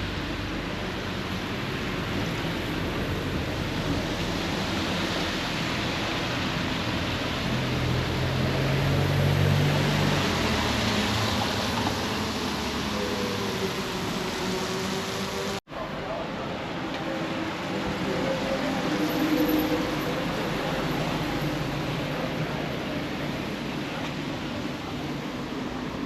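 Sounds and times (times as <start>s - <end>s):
steady outdoor rushing noise: 0.0s - 26.0s.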